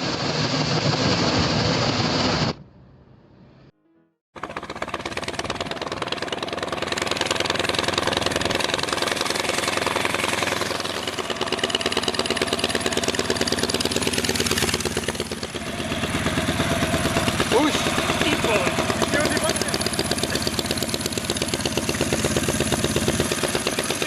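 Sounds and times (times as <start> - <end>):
motorcycle engine revving: 4.4 - 24.0.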